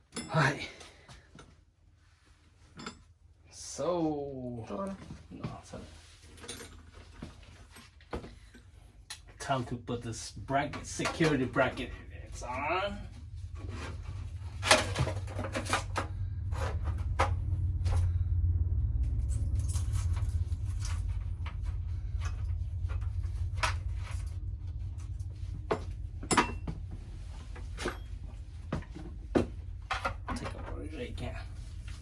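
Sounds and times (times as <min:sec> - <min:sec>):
steady low hum: 0:00.5 - 0:32.0.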